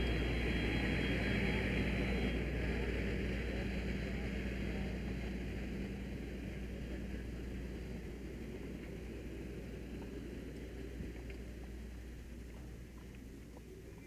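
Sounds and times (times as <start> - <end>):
fire engine running: 0.0 - 14.0.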